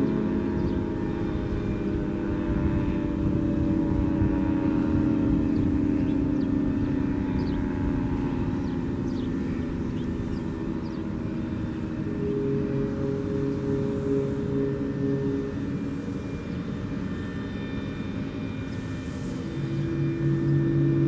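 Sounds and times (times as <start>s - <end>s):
warning siren chord: 0.0s - 21.0s.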